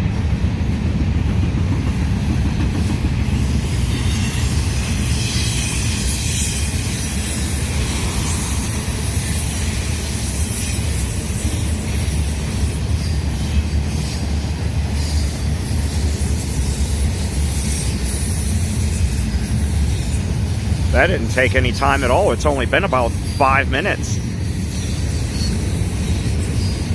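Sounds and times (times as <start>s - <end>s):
freight train rolling on rails: 0.0s - 26.9s.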